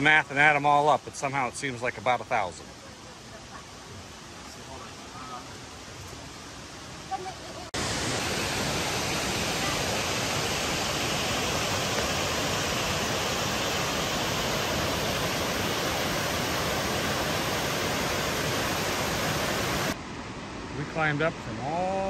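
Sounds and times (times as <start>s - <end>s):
waterfall and rapids rushing: 0.0s - 22.0s.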